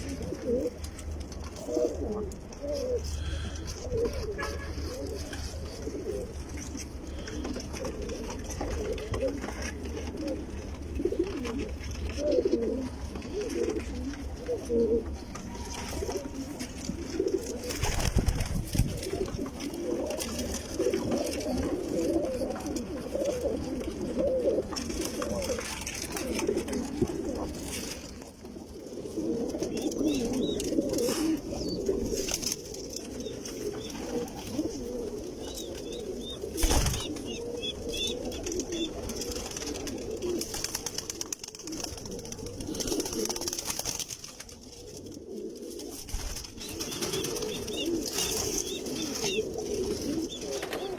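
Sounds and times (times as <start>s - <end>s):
pigeons cooing: 0.0s - 50.9s.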